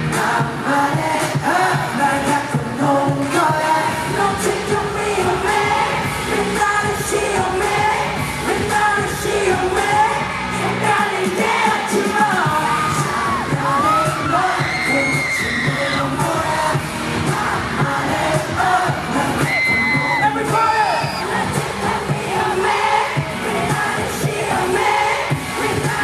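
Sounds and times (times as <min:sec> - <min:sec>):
men singing into microphones: 0:00.0 - 0:26.0
pop song over sound system: 0:00.0 - 0:26.0.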